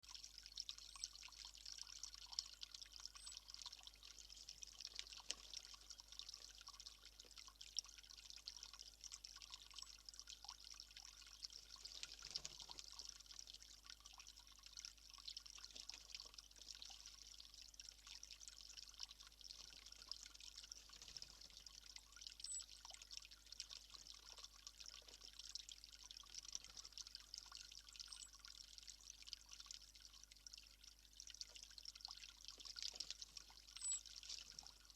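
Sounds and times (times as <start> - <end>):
trickle of running water: 0.0 - 34.9.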